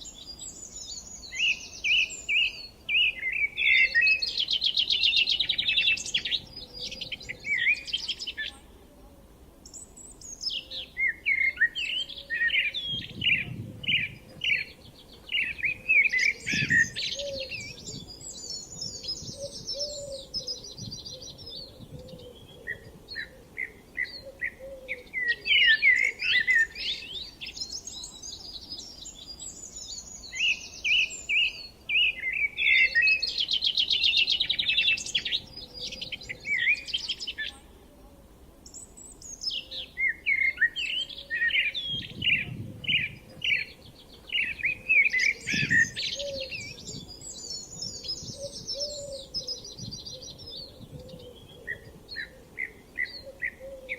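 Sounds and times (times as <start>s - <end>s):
songbirds chirping and trilling: 0.0s - 53.9s.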